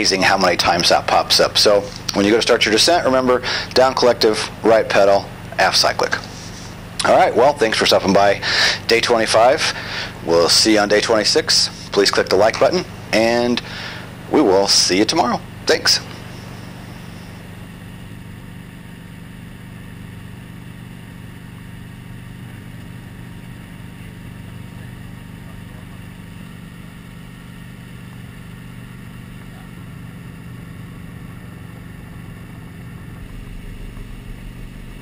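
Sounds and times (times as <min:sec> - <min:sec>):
helicopter engine and rotor hum: 0:00.0 - 0:35.0.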